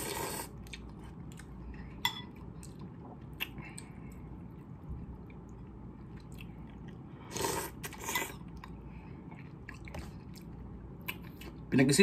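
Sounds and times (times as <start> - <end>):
person chewing: 0.0 - 11.6.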